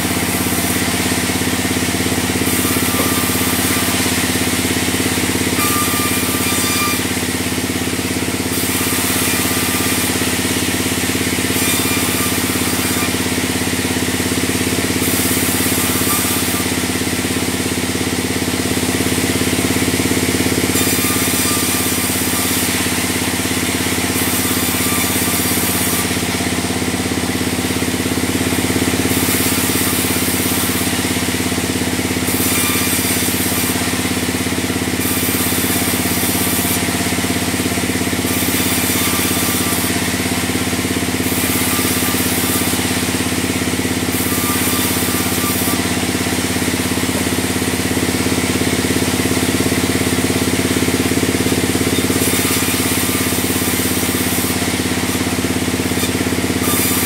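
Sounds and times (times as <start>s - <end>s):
band sawmill droning: 0.0s - 57.0s
saw blade cutting timber: 0.0s - 57.0s.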